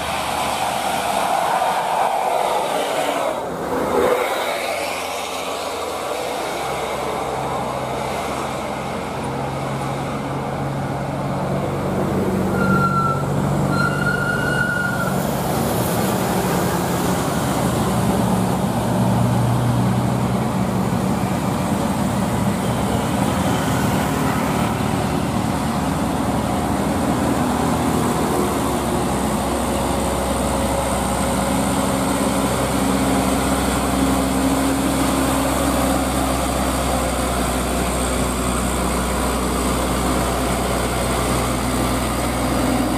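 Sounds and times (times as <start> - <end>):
truck diesel engine droning uphill: 0.0 - 42.9.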